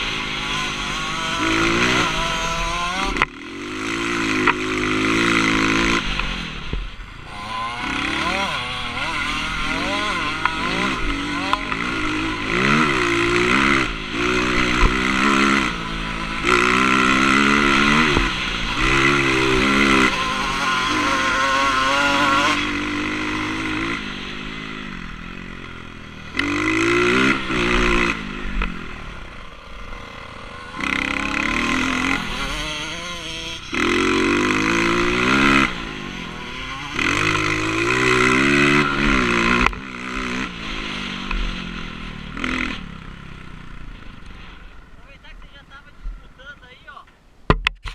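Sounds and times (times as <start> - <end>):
dirt bike engine revving: 0.0 - 46.8.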